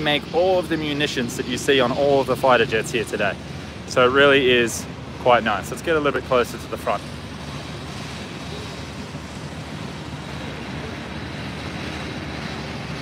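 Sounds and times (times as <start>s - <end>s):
low even rumble: 0.0s - 13.0s.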